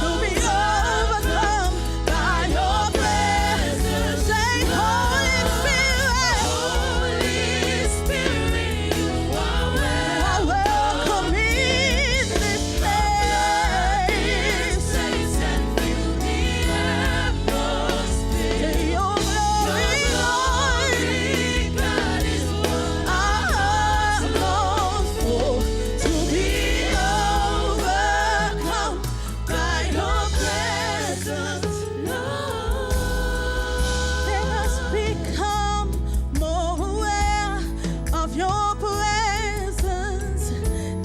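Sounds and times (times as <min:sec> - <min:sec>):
lead singer and choir singing: 0:00.0 - 0:39.0
band with steady bass: 0:00.0 - 0:41.0.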